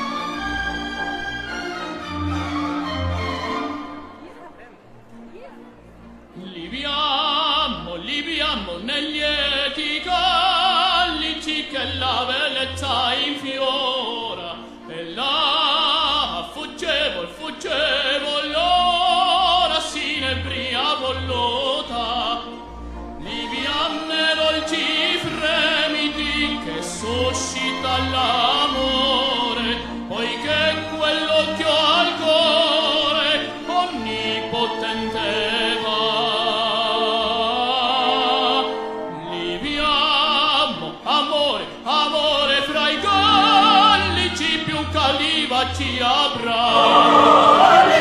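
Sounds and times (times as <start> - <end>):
orchestral accompaniment: 0.0 - 48.0
operatic singing: 6.3 - 48.0.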